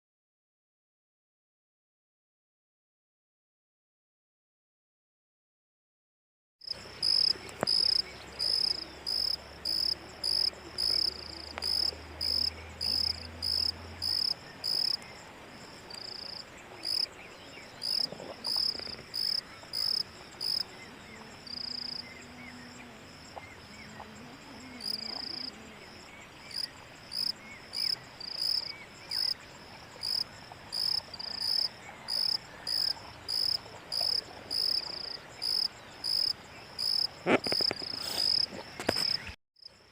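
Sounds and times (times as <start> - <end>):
cricket chirping: 6.6 - 39.9.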